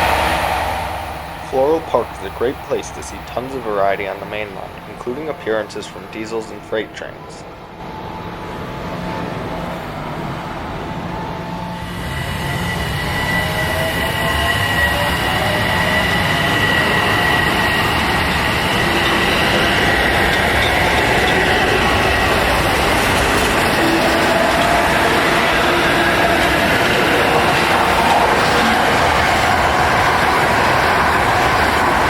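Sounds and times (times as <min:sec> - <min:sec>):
train rumbling past: 0:00.0 - 0:32.0
wheels whining on rails: 0:00.0 - 0:32.0.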